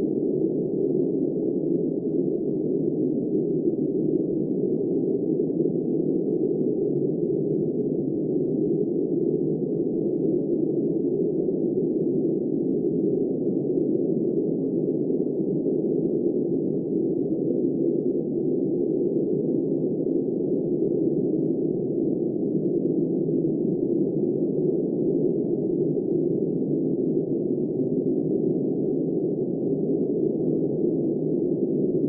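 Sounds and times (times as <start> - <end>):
muffled blizzard wind roar: 0.0 - 32.0.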